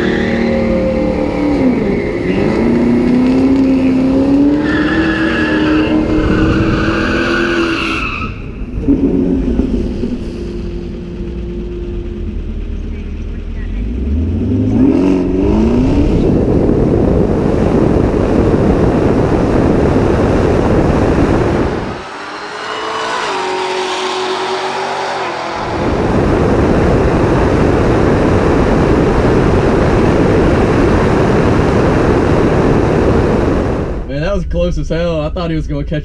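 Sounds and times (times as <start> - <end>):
road and wind noise: 0.0 - 36.0.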